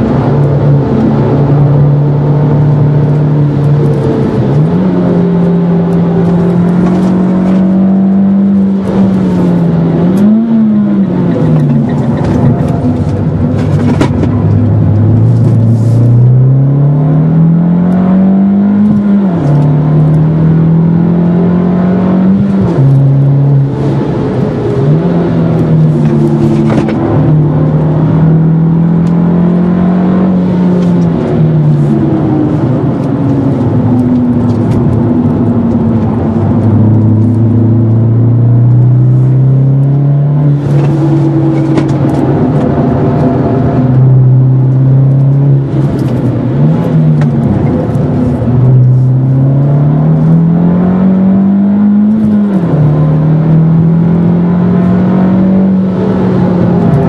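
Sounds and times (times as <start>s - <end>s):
car engine revving from inside cabin: 0.0s - 57.0s.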